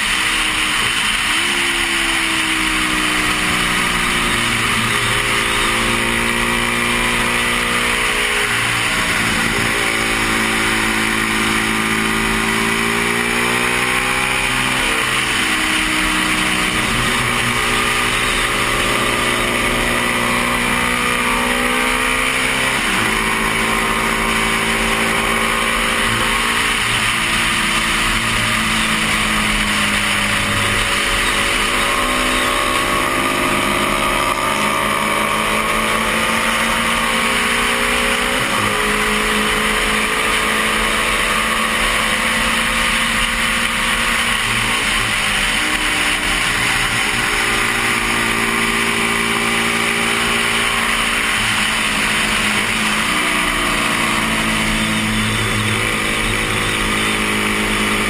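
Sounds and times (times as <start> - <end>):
motorcycle engine at high revs: 0.0 - 58.0.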